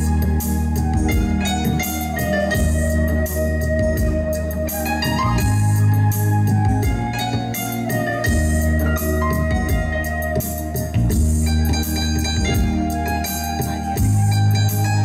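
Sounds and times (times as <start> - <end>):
drum beat with cymbal ticks: 0.0 - 15.0
keyboard notes: 0.0 - 15.0
live instrumental band music: 0.0 - 15.0.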